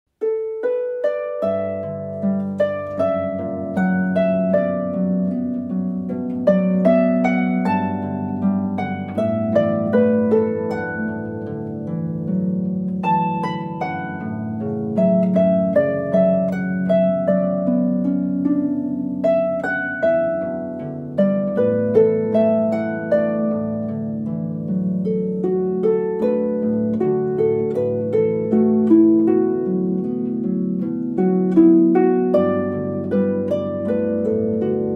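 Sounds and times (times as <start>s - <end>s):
plucked melody background music: 0.2s - 34.9s.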